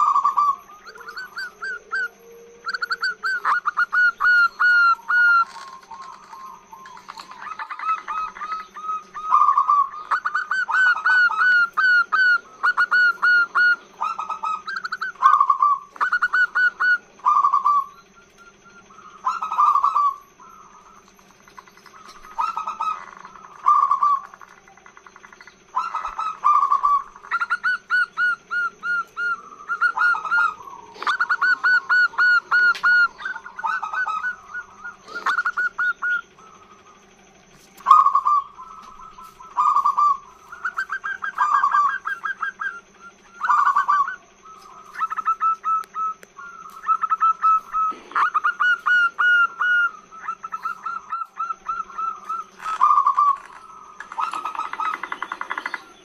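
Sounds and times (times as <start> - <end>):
dove cooing: 0.0 - 56.0
faint steady hum: 0.0 - 56.0.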